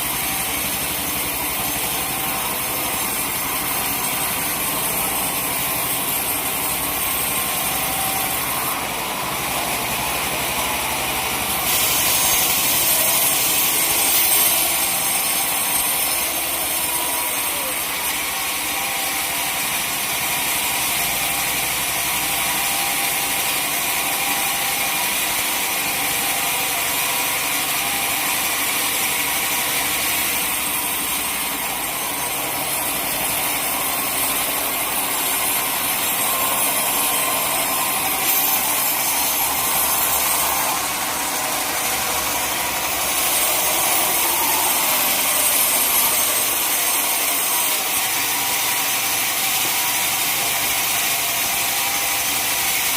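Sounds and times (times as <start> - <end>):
sawmill saw cutting log: 0.0 - 52.9.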